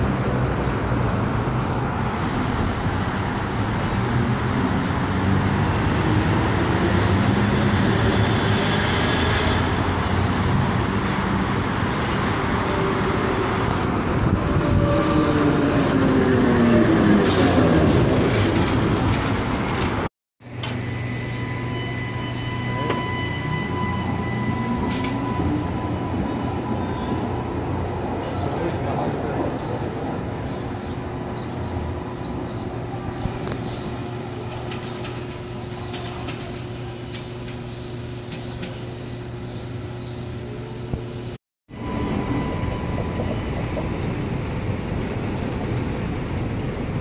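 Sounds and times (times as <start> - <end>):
streetcar high-pitched whine: 0.0 - 47.0
streetcar passing on rails: 0.0 - 47.0.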